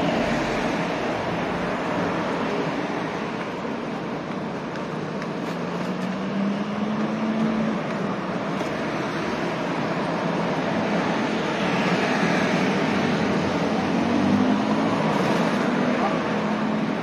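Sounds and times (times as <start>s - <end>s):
road noise rush: 0.0s - 17.0s.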